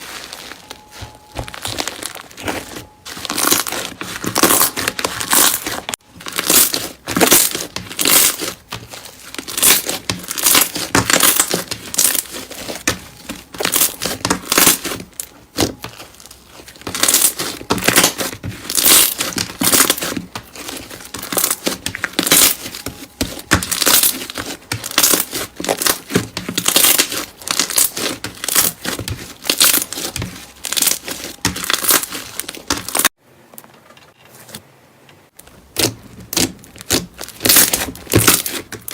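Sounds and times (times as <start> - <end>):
slime squeezed crackling: 0.0 - 33.1, 35.7 - 38.9.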